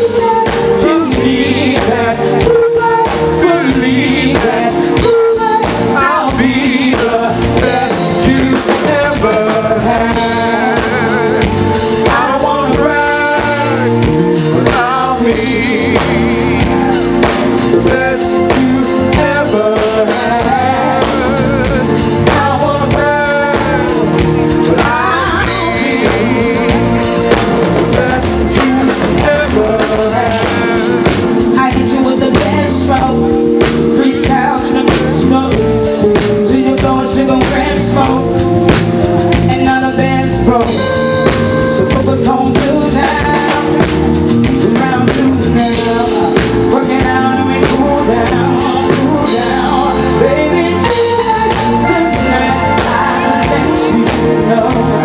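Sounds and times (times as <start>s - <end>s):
drum kit: 0.0s - 55.0s
electric bass guitar: 0.0s - 55.0s
keyboards: 0.0s - 55.0s
person singing lead vocal: 0.0s - 55.0s.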